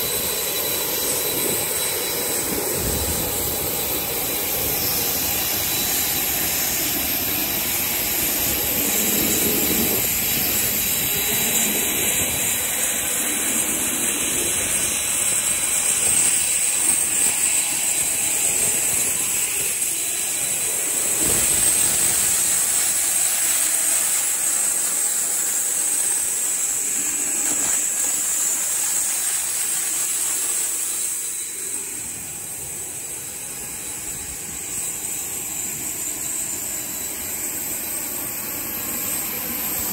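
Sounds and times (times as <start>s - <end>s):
jet engines hissing and whining: 0.0s - 39.9s.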